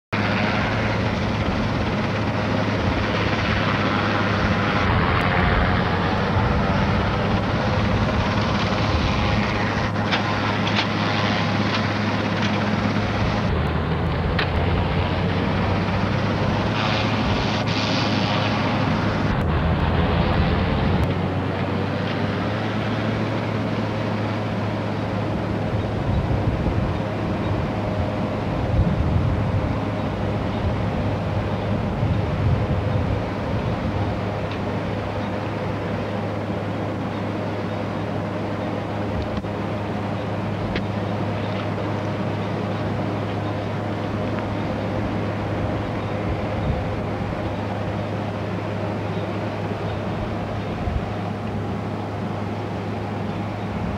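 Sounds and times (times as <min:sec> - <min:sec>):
helicopter engine and rotor: 0:00.1 - 0:53.9.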